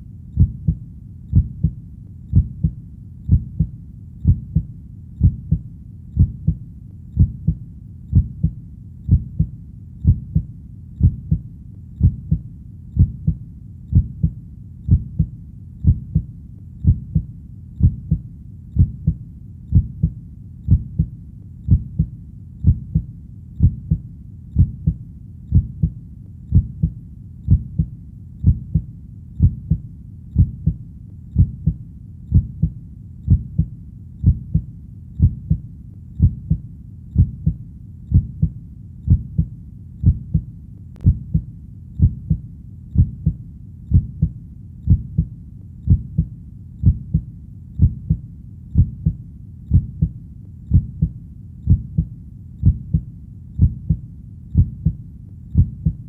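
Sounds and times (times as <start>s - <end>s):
low background hum: 0.0s - 56.0s
heartbeat thudding: 0.4s - 6.6s, 7.2s - 12.4s, 13.0s - 24.0s, 24.6s - 35.6s, 36.2s - 56.0s.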